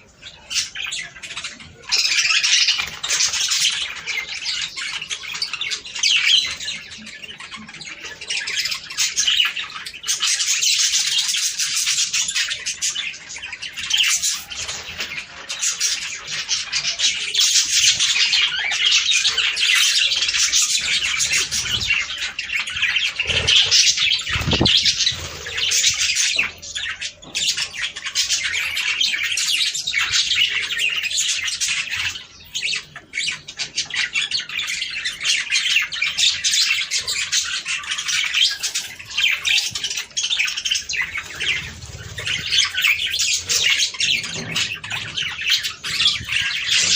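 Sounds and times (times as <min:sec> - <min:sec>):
budgerigars chattering and warbling: 0:00.0 - 0:46.9.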